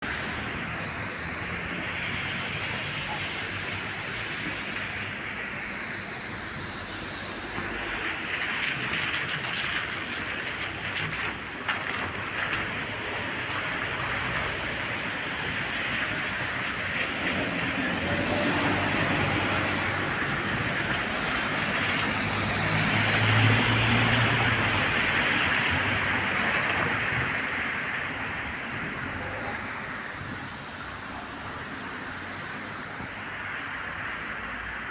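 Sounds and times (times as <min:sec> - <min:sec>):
vehicle passing on wet street: 0:00.0 - 0:34.9
steady rain falling: 0:00.2 - 0:34.9.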